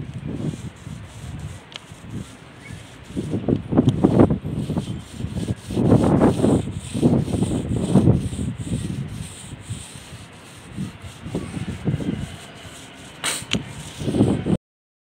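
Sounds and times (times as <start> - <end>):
paint roller rasping on concrete: 0.1 - 14.6.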